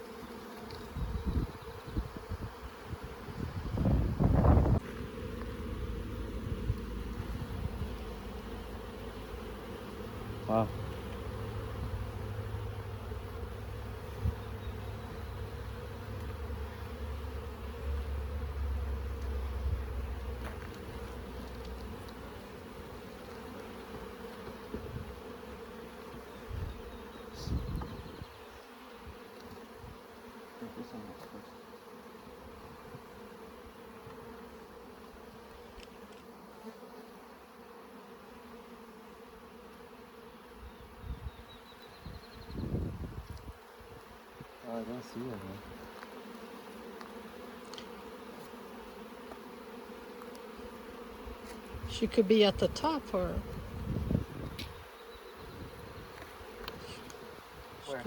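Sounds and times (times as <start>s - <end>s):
honeybees buzzing: 0.0s - 58.0s.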